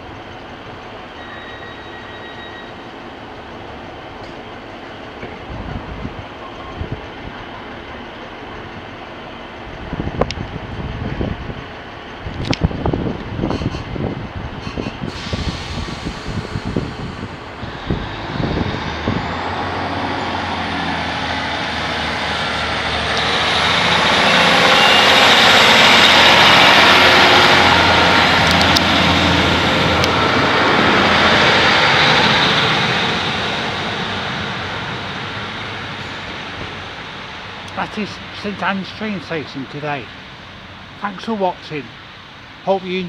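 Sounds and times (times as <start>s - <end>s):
diesel train engine accelerating: 0.0s - 43.0s.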